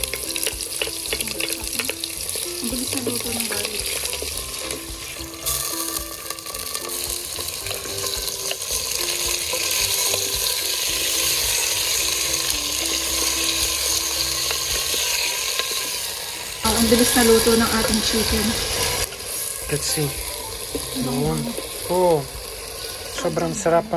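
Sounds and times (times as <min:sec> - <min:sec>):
chicken and garlic sizzling: 0:00.0 - 0:23.9.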